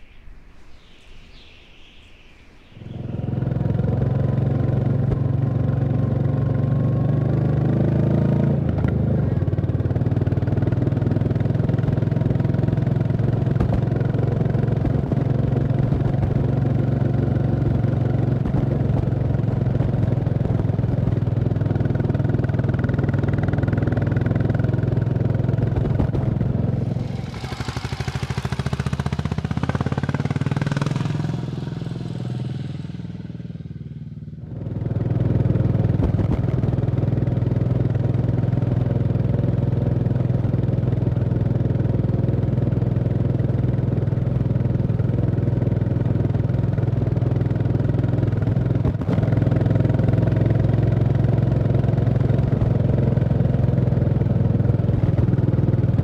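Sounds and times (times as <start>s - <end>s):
motorcycle engine running: 3.2s - 56.0s.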